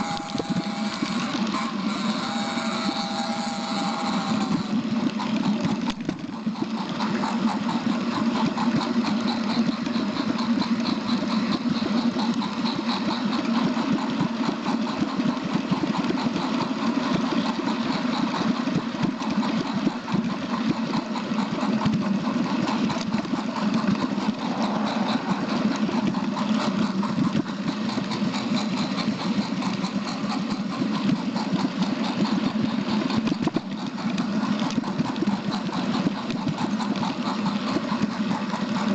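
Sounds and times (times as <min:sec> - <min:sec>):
train engine running: 0:00.0 - 0:38.9.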